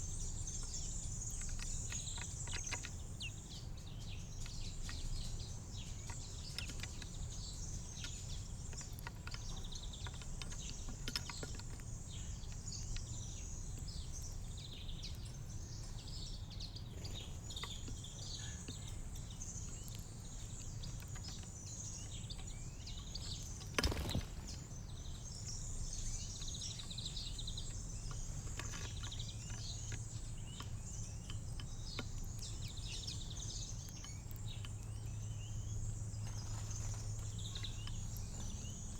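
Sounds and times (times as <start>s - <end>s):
low background hum: 0.0s - 38.9s
songbirds chirping: 0.0s - 38.9s.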